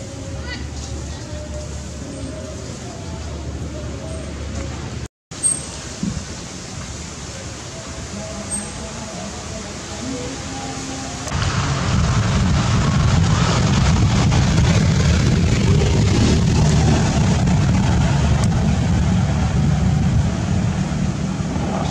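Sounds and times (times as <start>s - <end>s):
loud low rumble with hiss: 0.0s - 21.9s.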